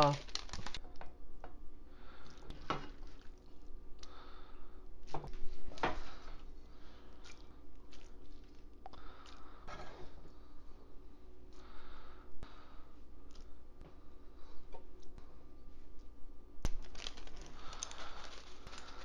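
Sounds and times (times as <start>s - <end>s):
soft wet squishes of food: 2.1s - 11.8s, 12.4s - 19.0s.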